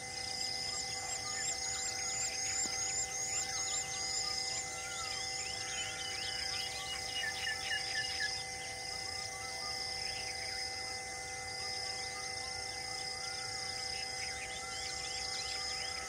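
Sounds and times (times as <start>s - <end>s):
wild birds chirping: 0.0s - 10.7s, 11.6s - 16.0s
insect buzz: 0.0s - 16.0s.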